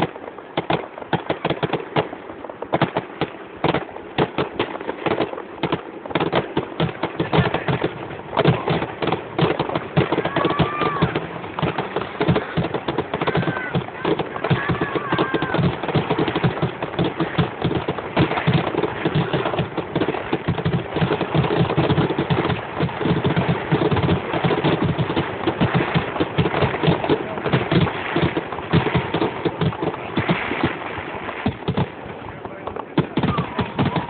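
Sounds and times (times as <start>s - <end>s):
fireworks bursts and crackling: 0.0s - 34.0s.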